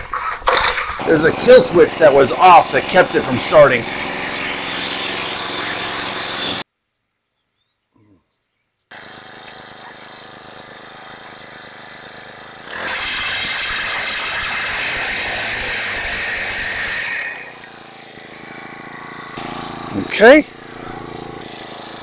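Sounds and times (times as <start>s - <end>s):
pile driver engine: 0.0s - 6.6s, 8.9s - 22.0s.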